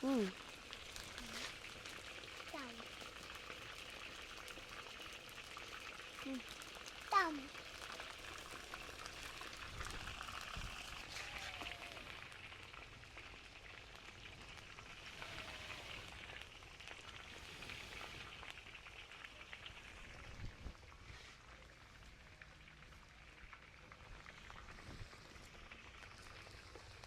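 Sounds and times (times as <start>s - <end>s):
food sizzling in a pot: 0.0s - 27.0s.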